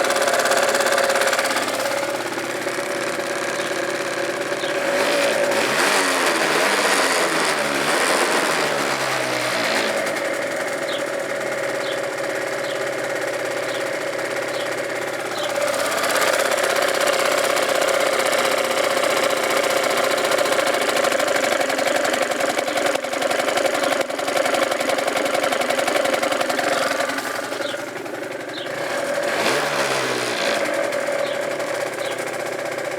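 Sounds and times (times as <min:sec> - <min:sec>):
scooter engine revving: 0:00.0 - 0:32.9.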